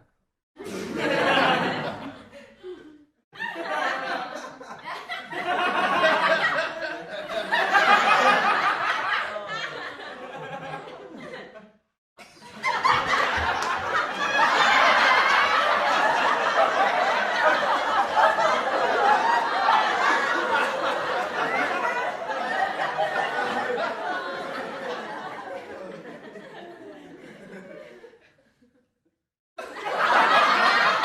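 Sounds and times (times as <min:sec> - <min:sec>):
recorded laughter: 0:00.6 - 0:28.5.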